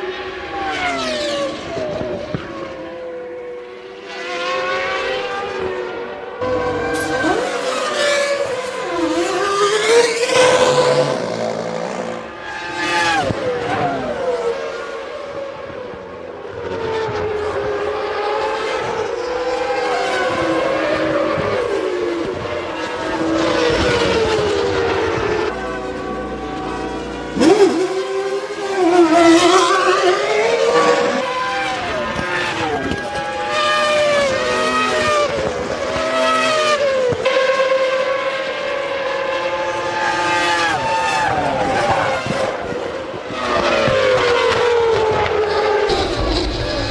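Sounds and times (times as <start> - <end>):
racing car engines at high revs: 0.0 - 46.9.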